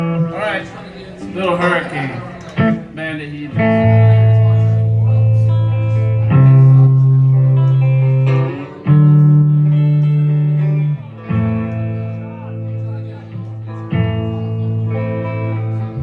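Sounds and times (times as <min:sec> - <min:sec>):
guitar chords: 0:00.0 - 0:16.0.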